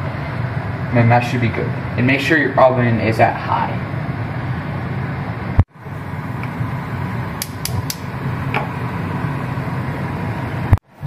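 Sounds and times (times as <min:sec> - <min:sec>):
gas burner rushing: 0:00.0 - 0:11.0.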